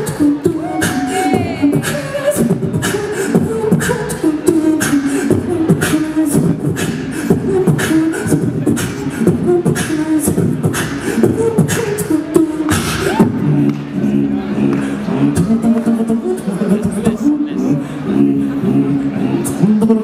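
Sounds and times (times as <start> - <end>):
beatboxing into a microphone: 0.0 - 20.0.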